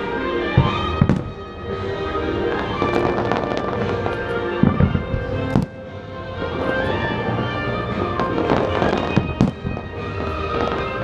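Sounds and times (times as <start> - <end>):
fireworks booming: 0.0 - 11.0
fireworks crackling: 0.0 - 11.0
music: 0.0 - 11.0.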